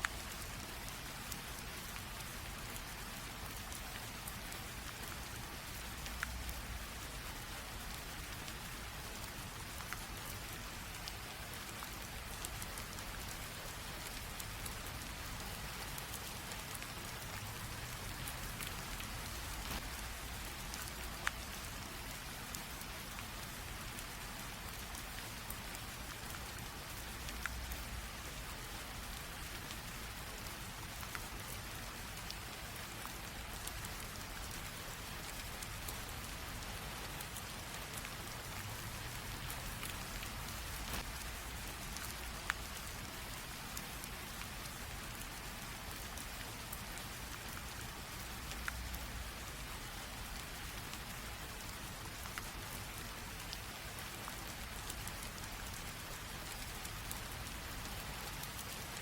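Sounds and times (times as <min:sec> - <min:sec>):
light rain drizzle: 0:00.0 - 0:59.0
raindrops ticking on a surface: 0:00.0 - 0:59.0.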